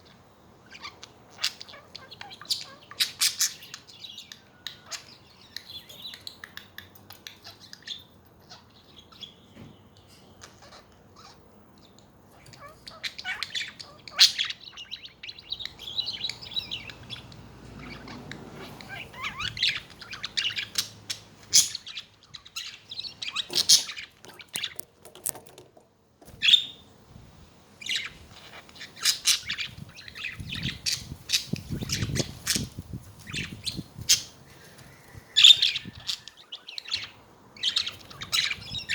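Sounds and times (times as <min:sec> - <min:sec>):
budgerigars chirping: 0:00.6 - 0:09.5, 0:10.4 - 0:24.8, 0:26.3 - 0:26.8, 0:27.8 - 0:38.9.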